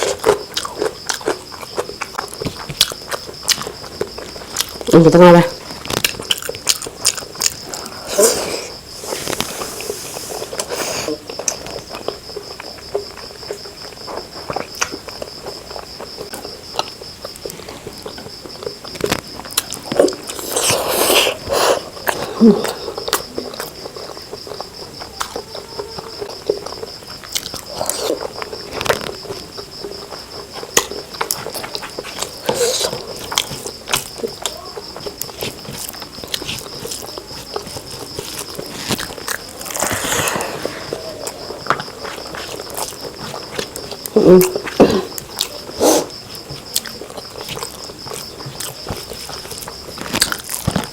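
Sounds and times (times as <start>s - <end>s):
chewing and mouth noises: 0.0s - 50.9s.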